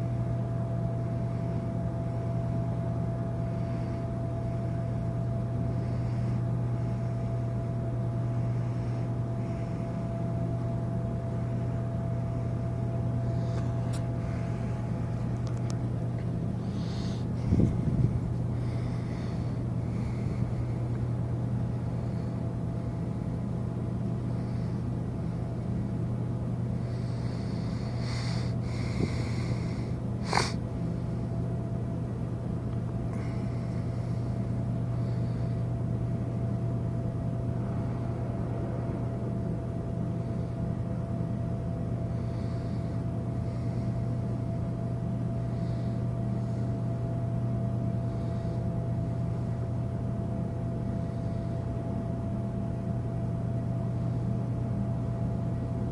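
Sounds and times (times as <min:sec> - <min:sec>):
ship machinery rumble and hum: 0:00.0 - 0:55.8
thin steady whine: 0:00.0 - 0:55.9.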